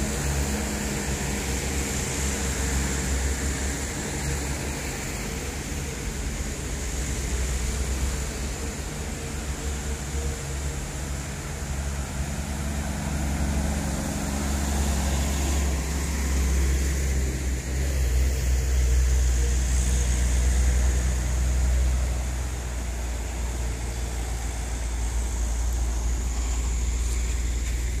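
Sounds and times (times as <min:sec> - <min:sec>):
truck diesel engine labouring: 0:00.0 - 0:28.0.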